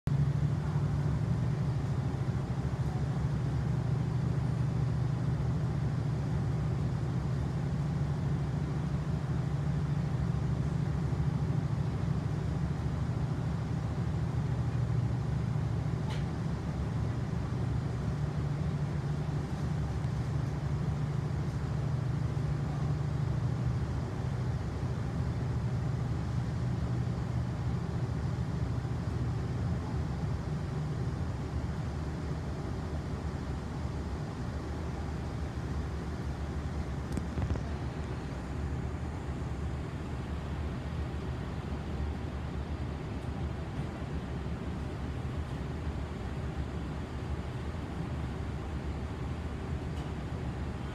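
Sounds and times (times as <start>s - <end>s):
locomotive diesel engine droning: 0.1s - 50.9s.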